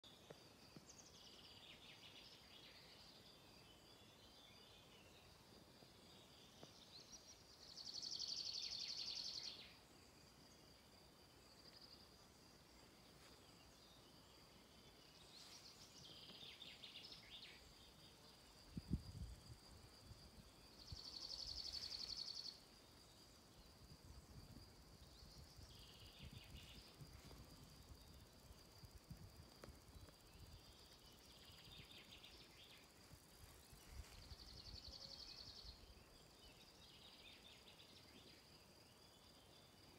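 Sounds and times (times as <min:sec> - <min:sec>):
faint insect chirps: 0:00.0 - 0:39.9
insects droning: 0:00.1 - 0:39.9.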